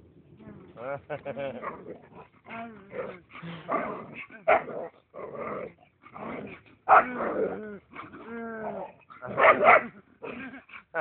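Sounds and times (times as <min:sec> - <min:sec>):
dog growling and barking: 0:01.6 - 0:11.0.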